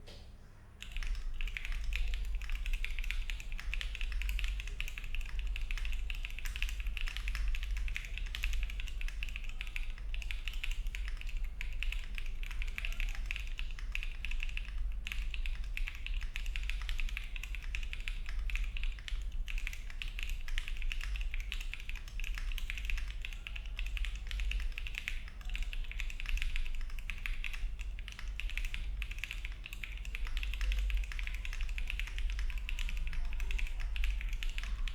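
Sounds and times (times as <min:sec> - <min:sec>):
mechanical keyboard typing: 0:00.8 - 0:34.9.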